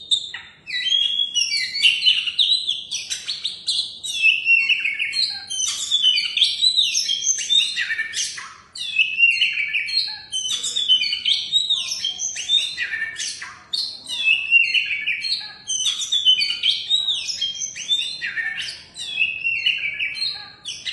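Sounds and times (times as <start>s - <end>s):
bird singing whistled phrases: 0.0s - 20.9s.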